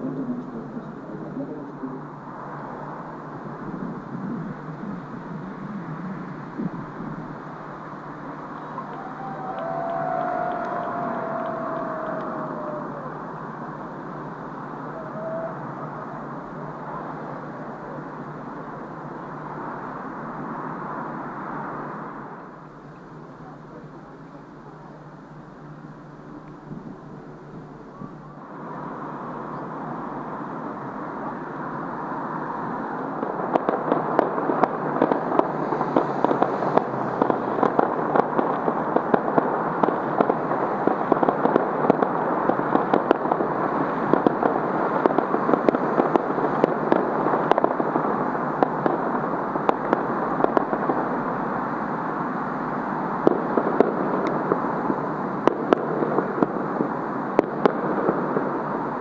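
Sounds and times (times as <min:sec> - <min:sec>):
fireworks crackling and banging: 0:00.0 - 0:24.4, 0:28.4 - 0:59.0.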